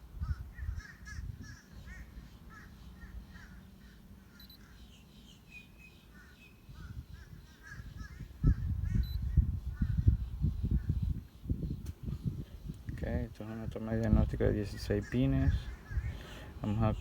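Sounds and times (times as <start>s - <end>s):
birds chirping and squawking: 0.1s - 12.7s, 13.5s - 17.0s.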